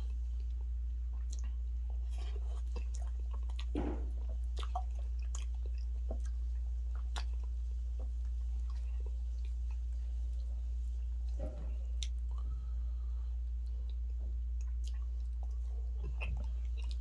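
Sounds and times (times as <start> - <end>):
wet chewing and mouth clicks: 0.0 - 10.5, 13.6 - 17.0
steady low hum: 0.0 - 17.0.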